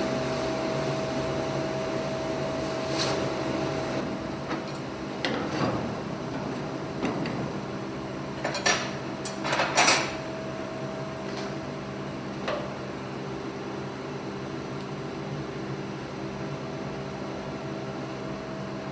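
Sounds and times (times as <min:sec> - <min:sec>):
steady hum: 0:00.0 - 0:18.9.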